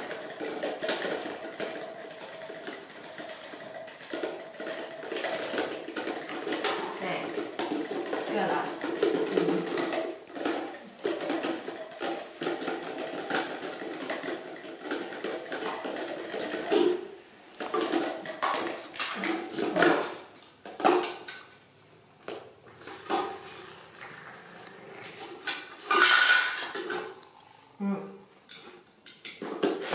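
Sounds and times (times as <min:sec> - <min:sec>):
plastic toys clacking on tiled floor: 0:00.0 - 0:29.9.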